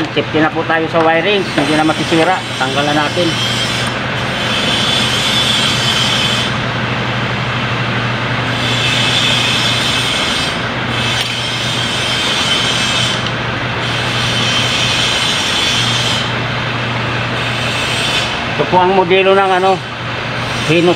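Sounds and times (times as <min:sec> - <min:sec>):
machinery humming: 0:00.0 - 0:20.9.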